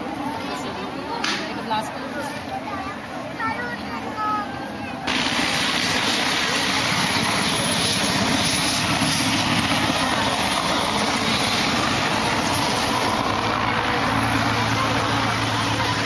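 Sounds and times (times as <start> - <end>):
helicopter flying low: 0.0 - 16.0.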